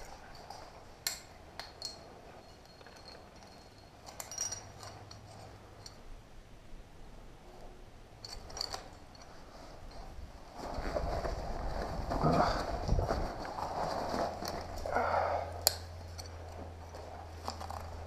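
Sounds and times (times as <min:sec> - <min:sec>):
climbing gear clinking: 0:00.0 - 0:06.2, 0:08.2 - 0:18.0.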